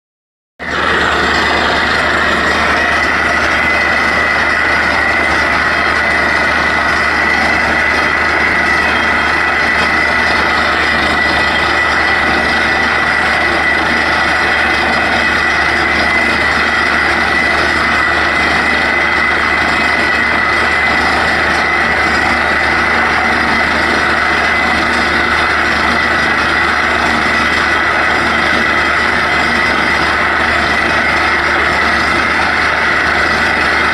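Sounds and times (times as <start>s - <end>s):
steady high whine: 0.6s - 33.9s
threshing machine droning: 0.6s - 33.9s.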